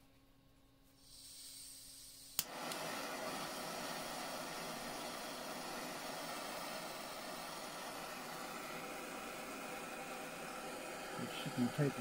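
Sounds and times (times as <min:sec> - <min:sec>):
blowtorch flame hissing: 0:01.0 - 0:12.0
blowtorch igniter click: 0:01.5 - 0:11.2.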